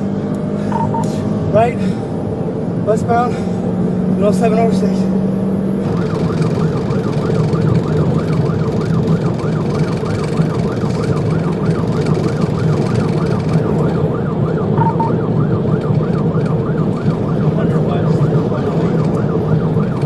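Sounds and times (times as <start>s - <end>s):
car engine: 0.0s - 20.0s
road noise: 0.0s - 20.0s
police siren yelping: 0.5s - 2.2s, 5.4s - 20.0s.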